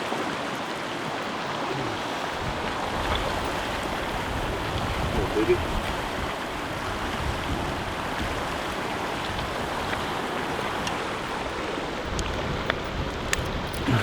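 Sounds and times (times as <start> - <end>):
river water rushing: 0.0 - 14.0
wind buffeting microphone: 1.7 - 14.0.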